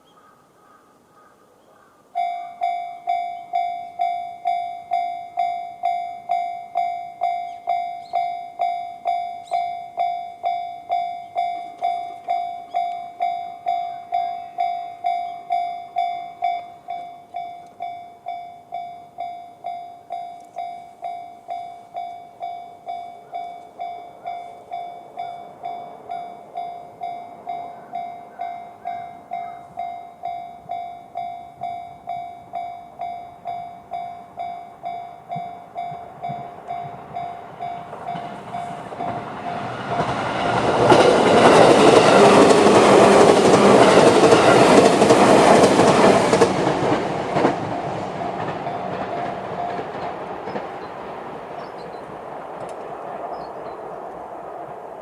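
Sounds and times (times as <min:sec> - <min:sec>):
approaching train: 0:00.0 - 0:55.0
level crossing alarm ringing: 0:02.1 - 0:52.1.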